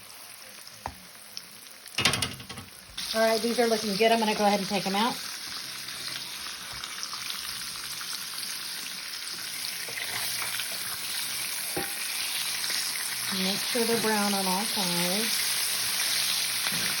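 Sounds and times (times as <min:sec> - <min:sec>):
food sizzling in frying oil: 0:00.0 - 0:17.0.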